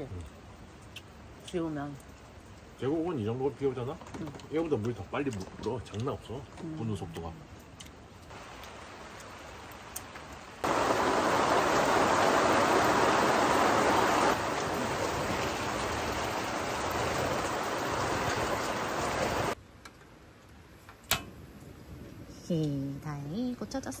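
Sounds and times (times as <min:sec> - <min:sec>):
heavy rain on a tent: 0:00.0 - 0:19.6.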